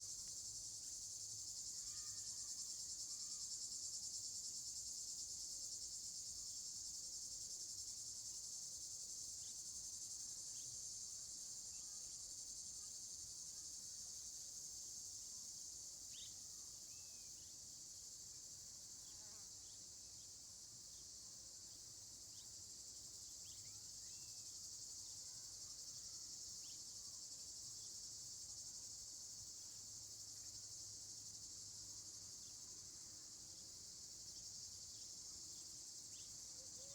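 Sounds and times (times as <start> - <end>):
crickets trilling: 0.0 - 5.1, 5.7 - 36.9.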